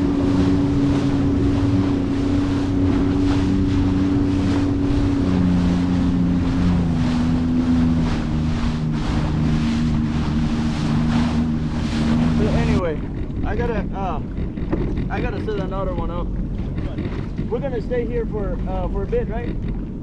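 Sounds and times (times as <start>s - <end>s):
jet ski engine running: 0.0s - 20.0s
wind buffeting microphone: 0.0s - 20.0s.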